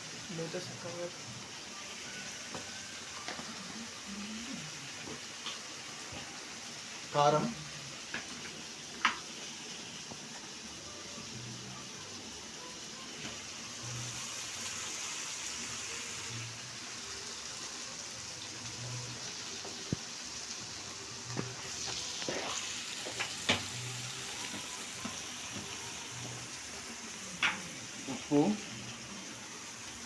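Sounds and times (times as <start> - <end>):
chicken sizzling in a pan: 0.0 - 30.0.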